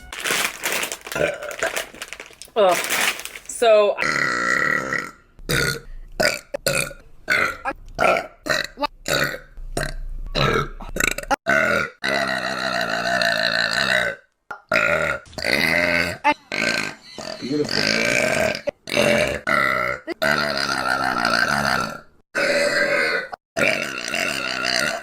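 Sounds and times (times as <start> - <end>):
woman burping: 1.1 - 1.9, 4.0 - 25.0.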